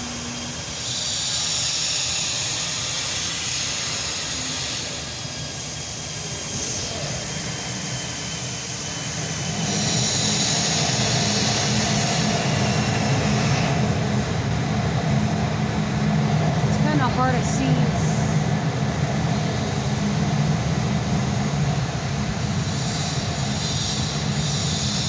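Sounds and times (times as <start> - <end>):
hydraulic motor and pump humming: 0.0 - 25.0.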